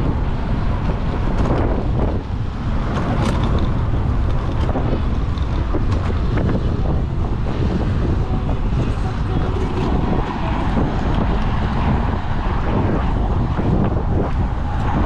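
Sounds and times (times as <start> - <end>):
low rumble of motorcycle ride: 0.0 - 15.0
wind buffeting microphone: 0.0 - 15.0.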